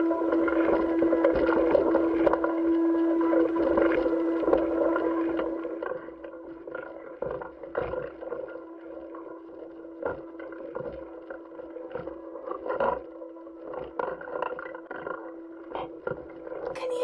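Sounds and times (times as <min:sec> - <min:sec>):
steady hum with held tones: 0:00.0 - 0:17.0.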